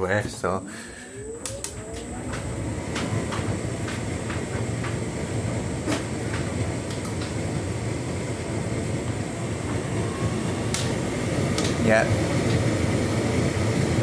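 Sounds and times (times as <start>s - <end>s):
tumble dryer drum rumbling: 0.0s - 14.0s.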